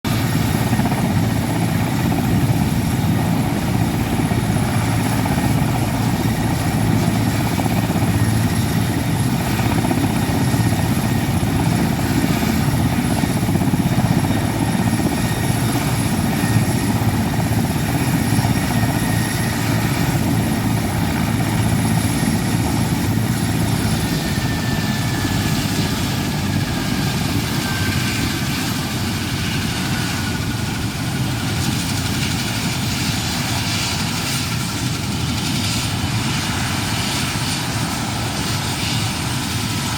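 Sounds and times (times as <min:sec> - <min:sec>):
helicopter rotor beating: 0:00.1 - 0:39.9
high turbine whine: 0:00.1 - 0:39.9.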